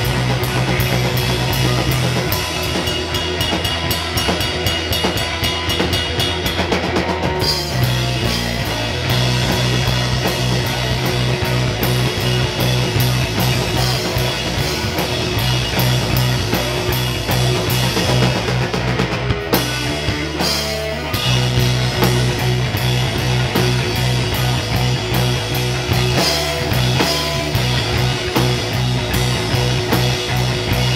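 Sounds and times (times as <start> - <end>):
live instrumental rock: 0.0 - 30.9.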